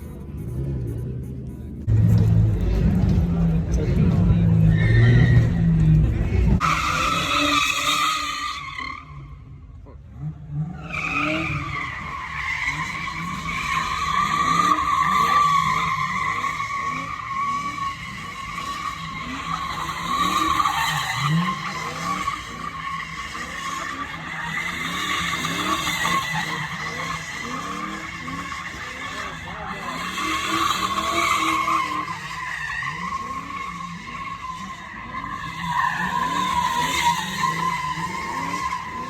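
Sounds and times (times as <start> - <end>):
car engine revving: 0.0 - 39.0
tires squealing: 0.0 - 39.0.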